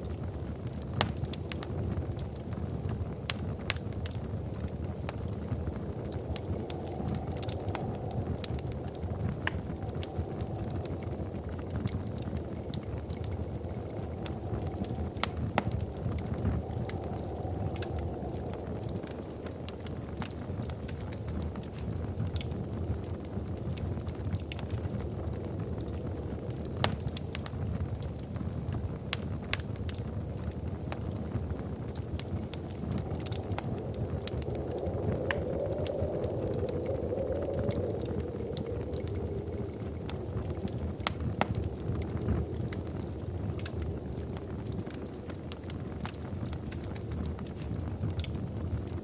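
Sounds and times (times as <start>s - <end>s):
fire popping and snapping: 0.0s - 49.0s
low rumble of flames: 0.0s - 49.0s.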